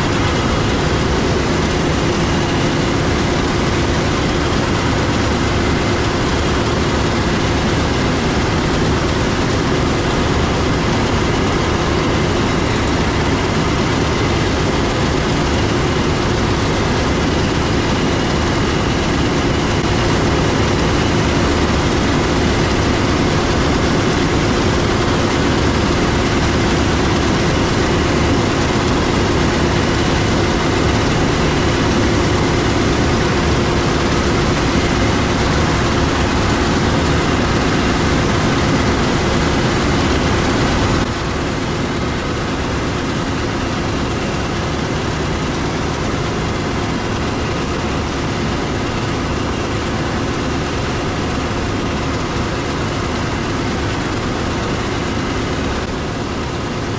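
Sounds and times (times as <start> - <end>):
diesel machinery droning: 0.0 - 56.9.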